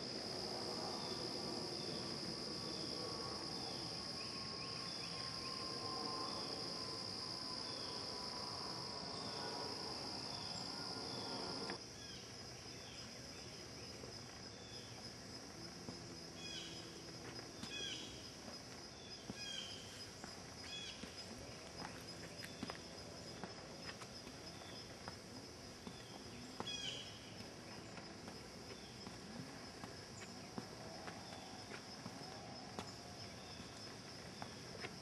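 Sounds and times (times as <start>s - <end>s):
crickets and insects chorus: 0.0s - 35.0s.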